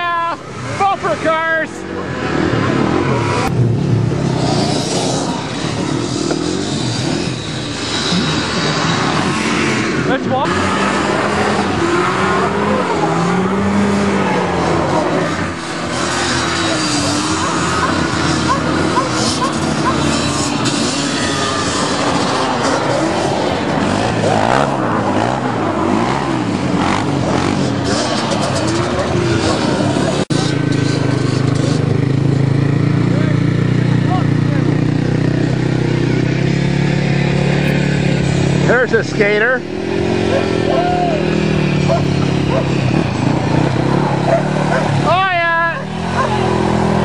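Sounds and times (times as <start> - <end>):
off-road vehicle engines revving: 0.0 - 47.0.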